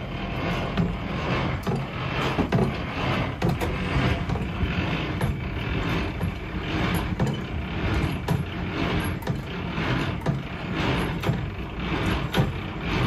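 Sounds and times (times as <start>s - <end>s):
hand crank whirring and clicking: 0.0s - 13.0s
truck engine humming: 0.0s - 13.0s.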